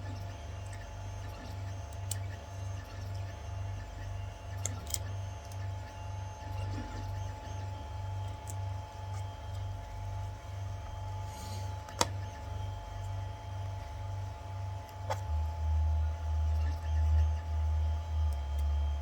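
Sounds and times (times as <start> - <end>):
pulsing machine hum: 0.0 - 19.0.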